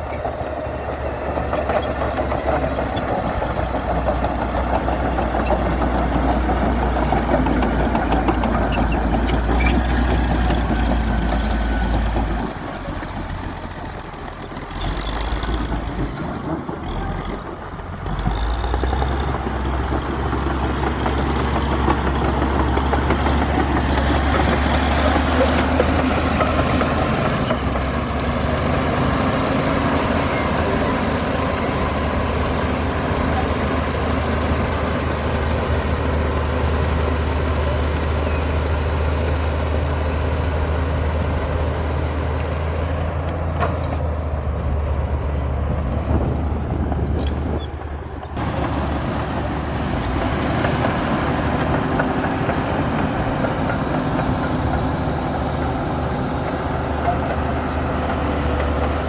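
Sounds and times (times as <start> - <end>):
bulldozer diesel engine drone: 0.0 - 59.0.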